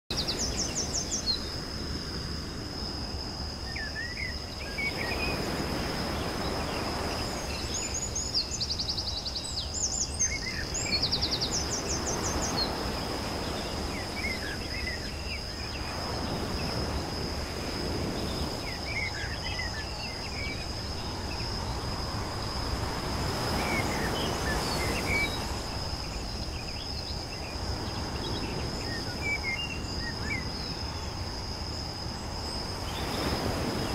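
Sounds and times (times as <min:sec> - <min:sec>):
birds chirping and trilling: 0:00.1 - 0:01.6, 0:03.6 - 0:17.2, 0:17.8 - 0:33.9
high insect drone: 0:00.1 - 0:33.9.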